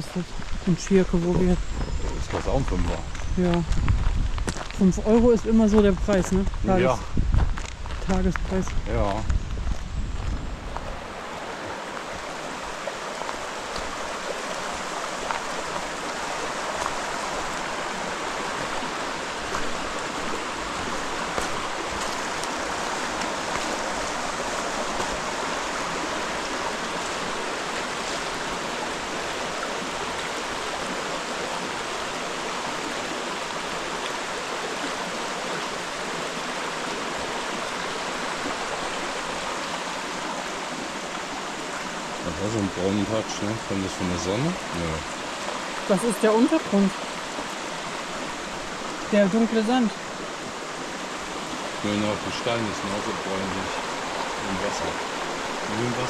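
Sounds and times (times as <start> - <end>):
river rushing over stones: 10.5 - 56.0.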